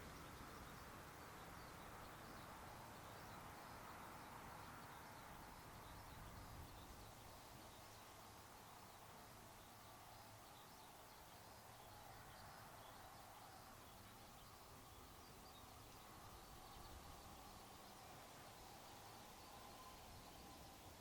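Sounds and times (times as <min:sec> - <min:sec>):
distant birds chirping: 0:00.0 - 0:21.0
low steady hiss: 0:00.0 - 0:21.0.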